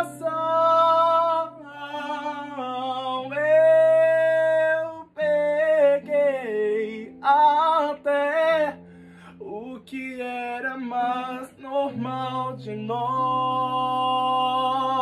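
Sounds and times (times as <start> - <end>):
person singing without words: 0.0 - 15.0.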